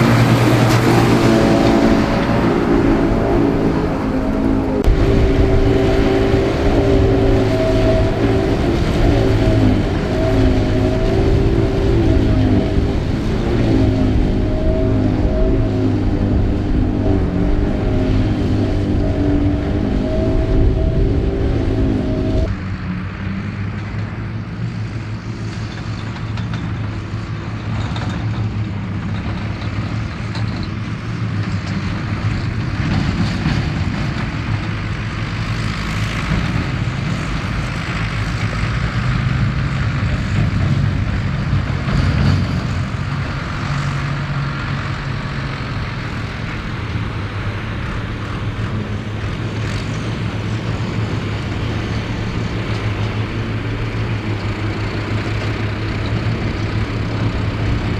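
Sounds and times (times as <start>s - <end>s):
forage harvester chopping and blowing: 0.0s - 57.9s
tractor diesel engine under load: 0.0s - 57.9s.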